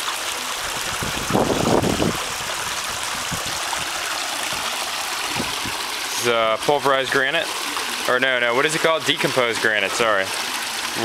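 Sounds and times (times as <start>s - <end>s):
water spilling into pond: 0.0s - 11.0s.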